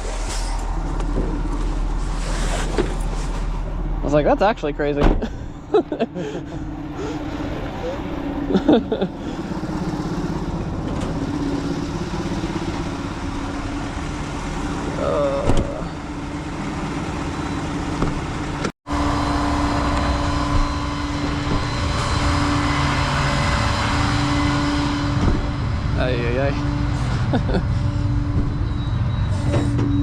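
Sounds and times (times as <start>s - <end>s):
truck engine and road noise: 0.0s - 30.0s.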